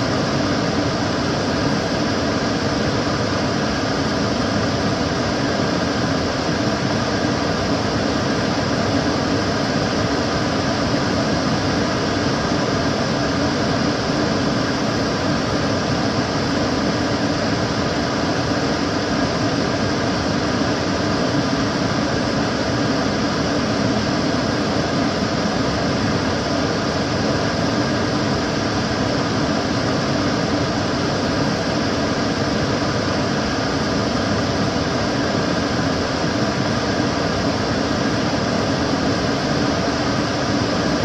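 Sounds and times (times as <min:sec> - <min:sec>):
extractor fan running: 0:00.0 - 0:41.0.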